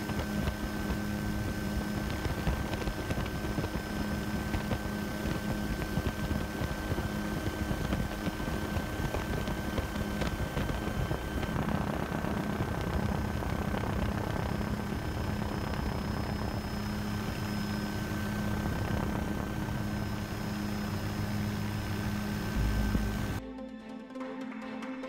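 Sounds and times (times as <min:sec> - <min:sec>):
helicopter drone: 0:00.0 - 0:23.4.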